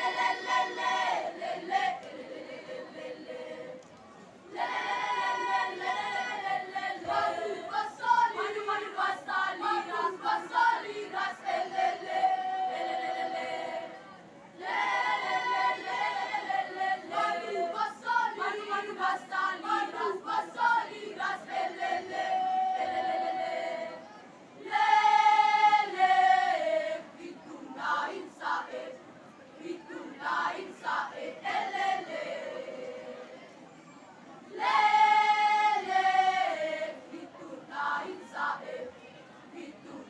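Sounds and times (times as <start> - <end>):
school choir singing: 0.0 - 3.8, 4.5 - 29.0, 29.6 - 33.5, 34.5 - 40.0.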